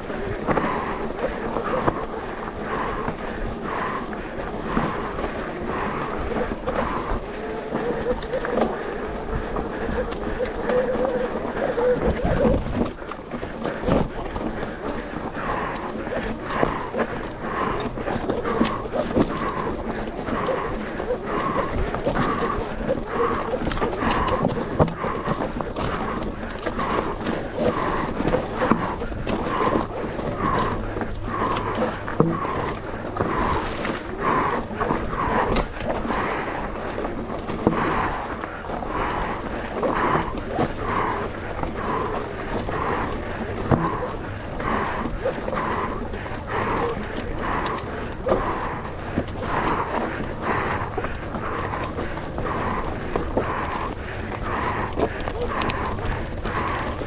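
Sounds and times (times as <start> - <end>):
bike rattling on rough ground: 0.0 - 57.0
rider breathing hard: 0.0 - 57.0.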